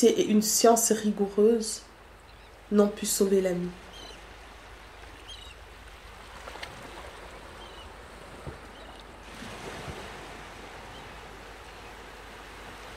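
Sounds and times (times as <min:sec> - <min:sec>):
steady background hiss: 0:00.0 - 0:12.9.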